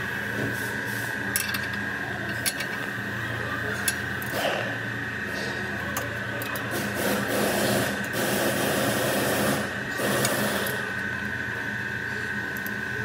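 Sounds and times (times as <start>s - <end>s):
workshop hum with high whine: 0.0s - 13.0s.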